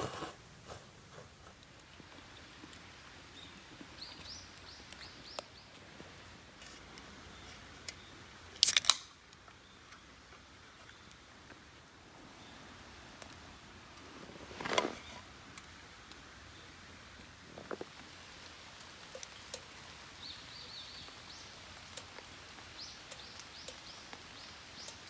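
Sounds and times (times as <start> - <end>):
faint crackles: 0.0 - 25.0.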